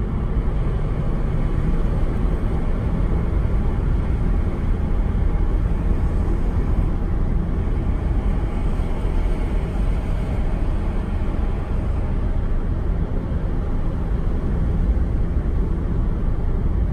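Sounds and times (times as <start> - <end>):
car driving rumble: 0.0 - 16.9.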